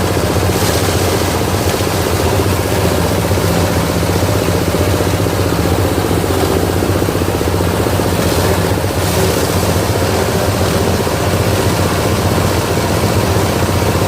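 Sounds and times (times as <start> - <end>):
diesel engine running: 0.0 - 14.0
machine grinding wood shavings: 0.0 - 14.0.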